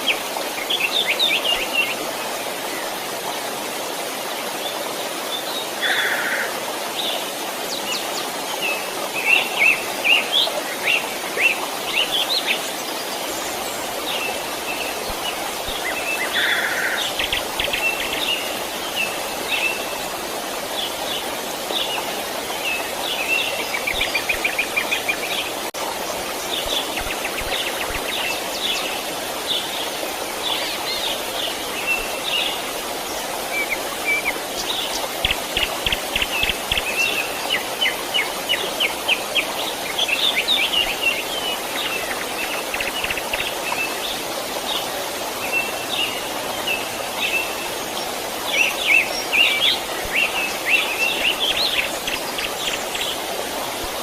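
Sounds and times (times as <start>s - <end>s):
small stream flowing: 0.0s - 54.0s
songbirds chirping: 0.0s - 54.0s.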